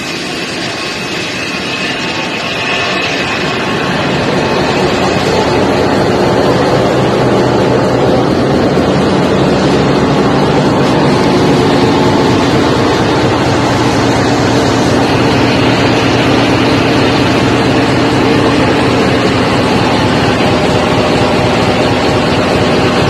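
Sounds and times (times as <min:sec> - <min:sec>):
engines droning: 0:00.0 - 0:23.0.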